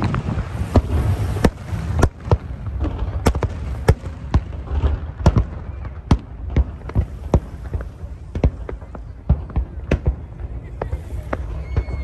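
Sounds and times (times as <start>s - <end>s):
continuous low rumble: 0.0s - 12.0s
fireworks bursting with sharp bangs: 0.0s - 12.0s.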